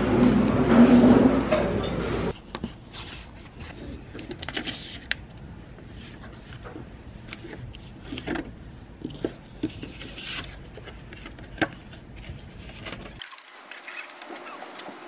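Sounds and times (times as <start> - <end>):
paper rustling: 2.4 - 15.0.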